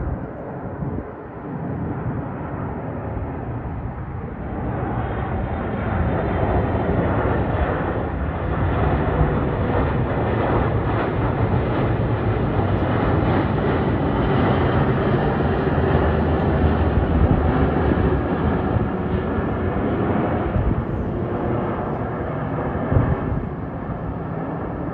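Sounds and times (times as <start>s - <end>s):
jet engine rumble: 0.0s - 24.9s.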